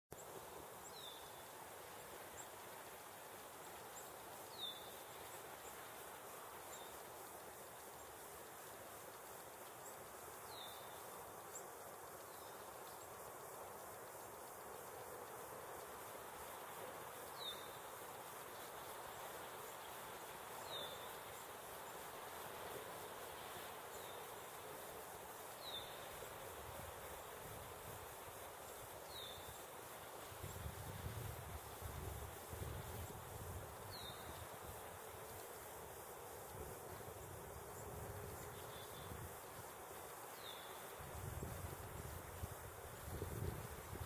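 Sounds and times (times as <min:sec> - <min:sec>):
faint steady hiss: 0:00.1 - 0:44.0.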